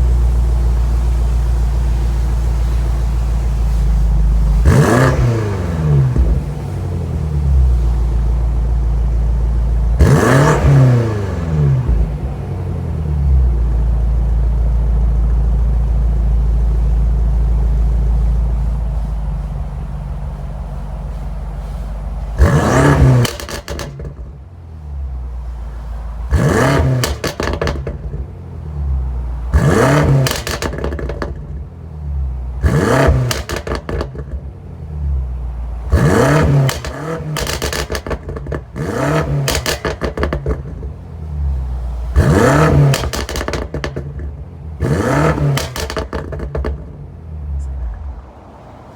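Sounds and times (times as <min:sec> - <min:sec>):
car engine revving from idle: 0:00.0 - 0:48.2
exhaust crackles: 0:00.0 - 0:48.9.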